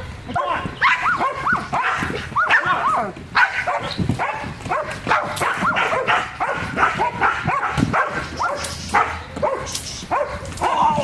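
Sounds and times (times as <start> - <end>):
dog barking: 0.4 - 10.9.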